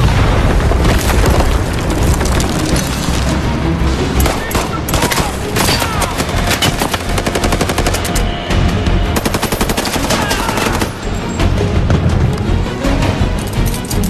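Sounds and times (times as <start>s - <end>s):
film score music: 0.0s - 14.0s.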